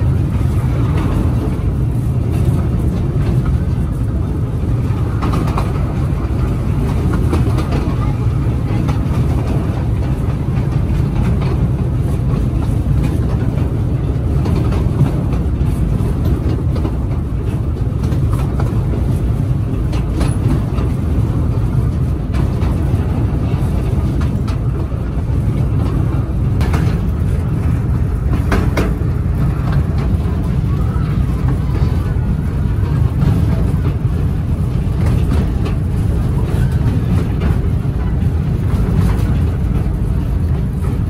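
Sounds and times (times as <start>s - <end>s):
ride train rumbling along track: 0.0s - 41.0s.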